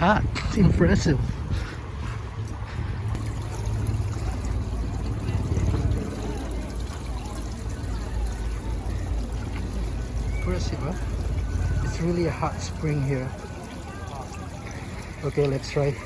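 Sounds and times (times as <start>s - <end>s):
constant low rumble: 0.0s - 16.0s
water trickling and pouring: 3.0s - 16.0s.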